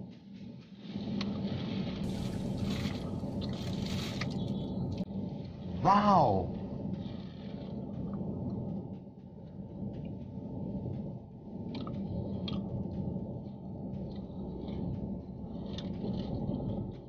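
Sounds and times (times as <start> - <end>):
low car cabin rumble: 1.9 - 17.0.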